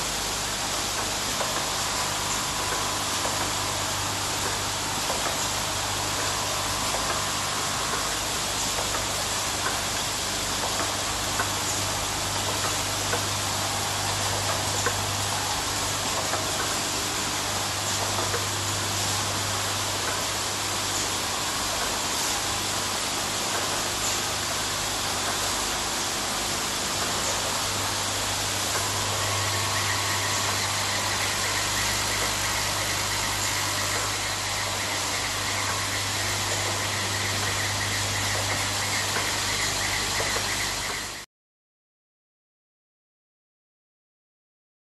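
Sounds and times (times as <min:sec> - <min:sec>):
faint high whine: 0:00.0 - 0:41.3
machines humming: 0:00.0 - 0:41.3.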